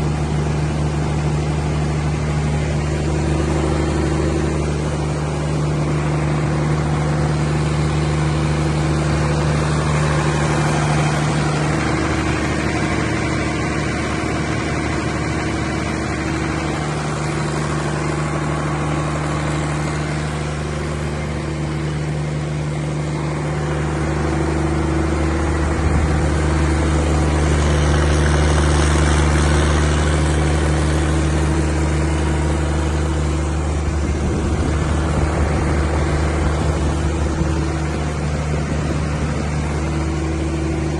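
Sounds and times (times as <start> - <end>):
diesel generator running: 0.0 - 40.9.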